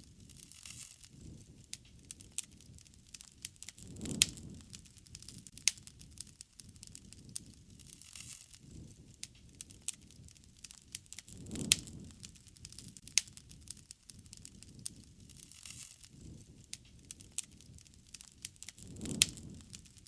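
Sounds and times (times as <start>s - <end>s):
burning wood crackling: 0.0s - 20.0s
low rumble of flames: 0.0s - 20.0s.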